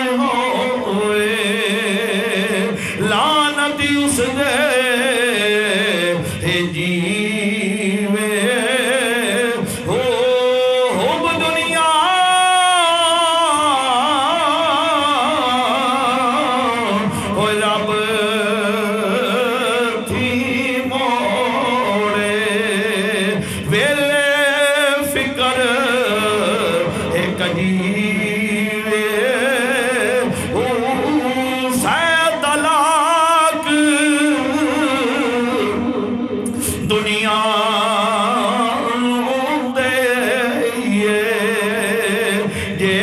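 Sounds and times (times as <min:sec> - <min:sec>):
man singing: 0:00.0 - 0:43.0.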